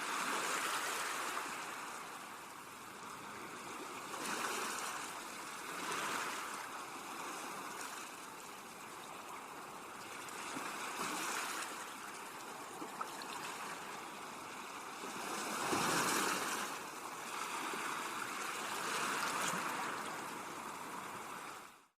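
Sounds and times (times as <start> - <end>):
sea waves washing onto beach: 0.0 - 21.8.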